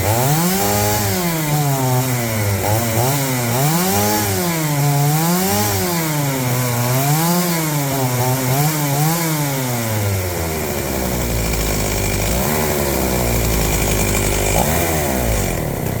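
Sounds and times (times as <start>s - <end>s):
chainsaw engine idling: 0.0s - 16.0s.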